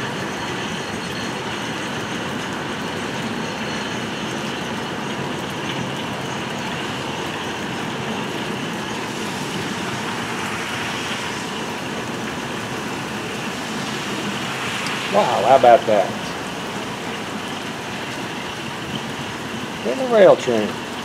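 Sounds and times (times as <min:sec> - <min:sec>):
rail train rolling past: 0:00.0 - 0:19.9
falling rain: 0:00.0 - 0:21.0.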